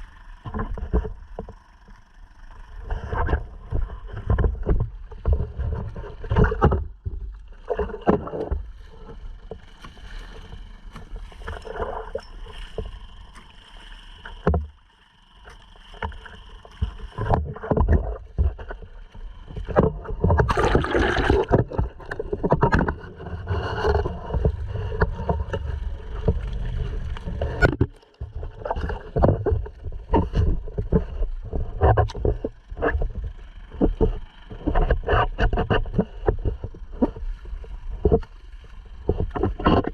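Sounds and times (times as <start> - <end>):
water splashing against kayak hull: 0.0 - 39.9.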